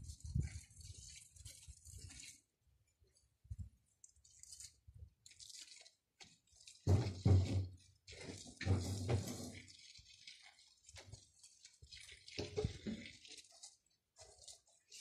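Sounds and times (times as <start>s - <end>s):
cat paws scratching in dry soil: 0.0s - 7.2s, 8.0s - 15.0s.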